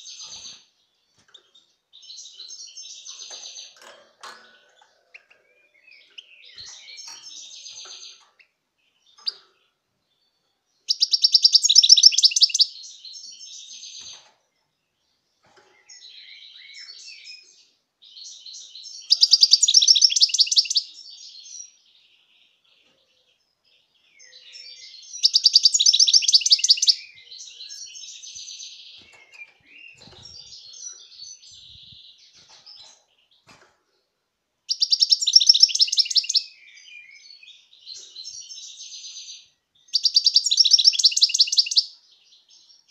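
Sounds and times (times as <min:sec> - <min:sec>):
finch singing: 0:00.0 - 0:14.3, 0:15.4 - 0:33.6, 0:34.7 - 0:42.9.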